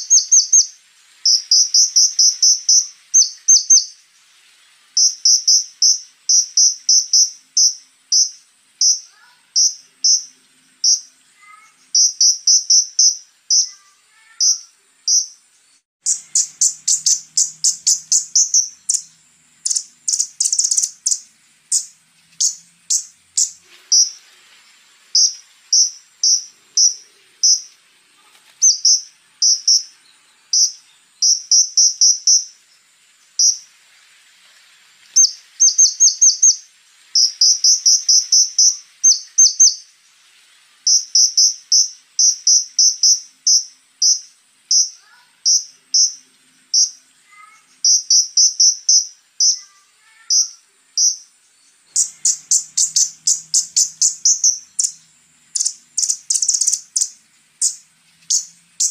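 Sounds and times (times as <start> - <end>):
bird high ticking calls: 0.0 - 4.0, 4.9 - 24.3, 25.1 - 27.8, 28.6 - 33.7, 35.1 - 39.9, 40.8 - 58.9.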